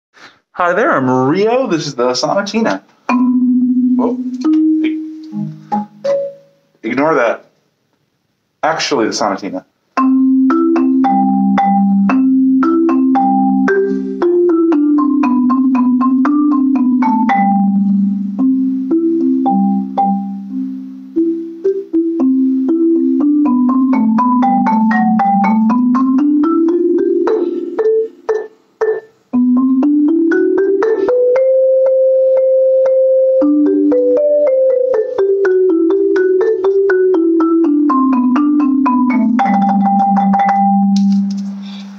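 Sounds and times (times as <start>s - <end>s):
marimba melody: 2.3s - 6.7s, 10.0s - 41.9s.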